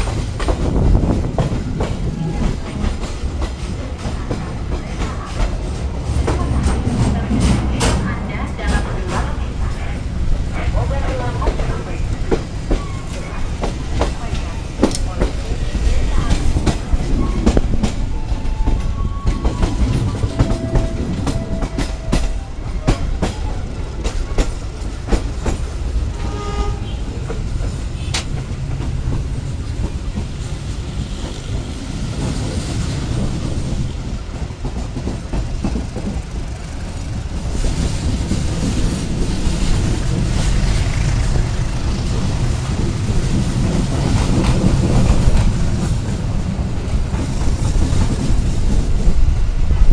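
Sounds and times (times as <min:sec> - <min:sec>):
wheels clacking over rail joints: 0:00.0 - 0:49.6
train carriages rumbling: 0:00.0 - 0:49.9.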